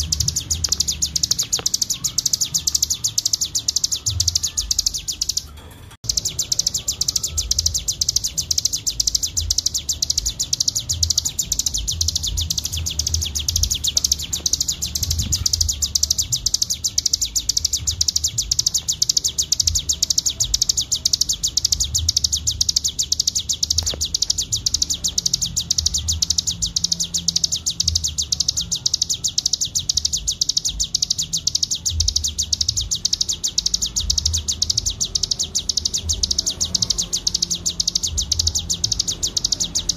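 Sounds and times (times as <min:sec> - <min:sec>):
bird singing a buzzing trill: 0:00.0 - 0:39.9.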